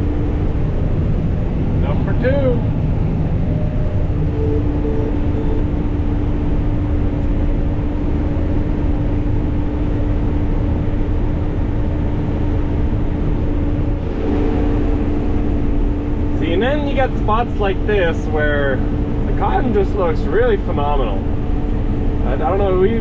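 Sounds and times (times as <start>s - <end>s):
harvester machinery drone: 0.0s - 23.0s.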